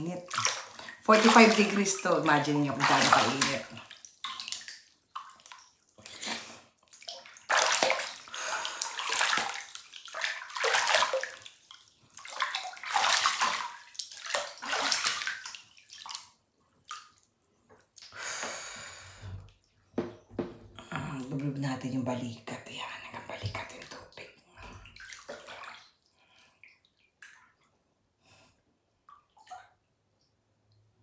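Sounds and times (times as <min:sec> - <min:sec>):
bath water sloshing and splashing: 0:00.0 - 0:18.2, 0:19.2 - 0:31.0.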